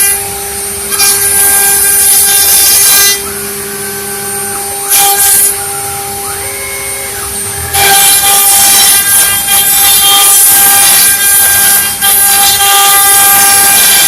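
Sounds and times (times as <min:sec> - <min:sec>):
router motor whine: 0:00.0 - 0:14.0
second motor whine: 0:00.0 - 0:14.0
cutter cutting into wood: 0:00.9 - 0:03.3, 0:04.3 - 0:14.0.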